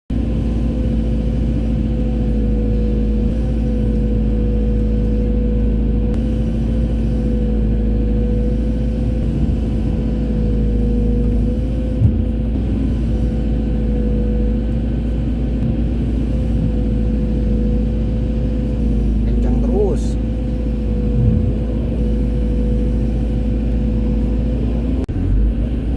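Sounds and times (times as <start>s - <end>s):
excavator diesel engine rumbling: 0.1s - 25.9s.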